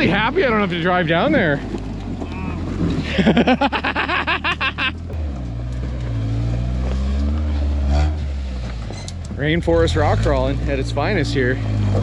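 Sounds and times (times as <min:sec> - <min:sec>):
truck engine at low revs: 0:00.0 - 0:12.0.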